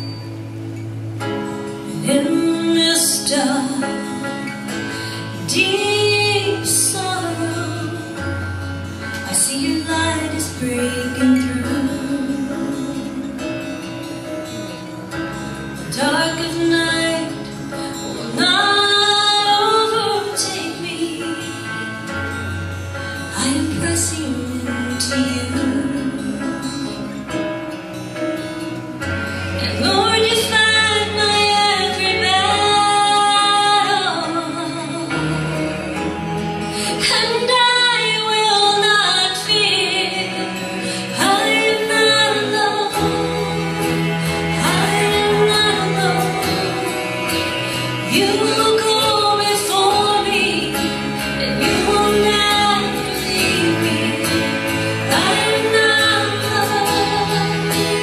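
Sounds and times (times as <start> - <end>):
woman singing: 1.8 - 14.6, 15.8 - 27.5, 29.5 - 58.0.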